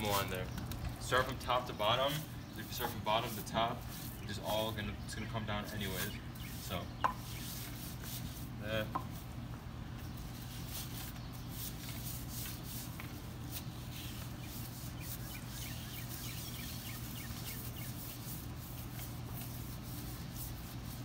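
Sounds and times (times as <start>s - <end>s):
brush scrubbing car wheel: 0.0s - 0.4s, 1.0s - 9.4s, 10.1s - 21.0s
steady low hum: 0.0s - 21.0s.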